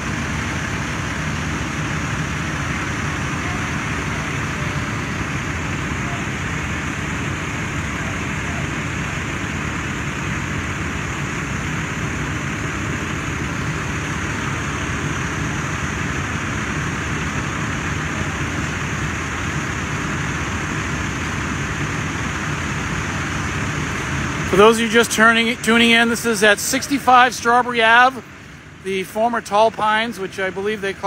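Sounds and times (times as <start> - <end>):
fire engine drone: 0.0 - 31.0.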